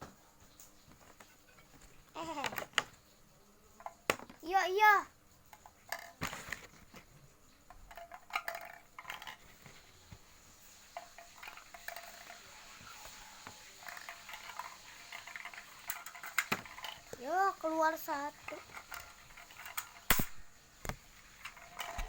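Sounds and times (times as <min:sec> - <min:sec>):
plastic toy parts clicking and rattling: 0:00.9 - 0:03.1, 0:03.7 - 0:22.0.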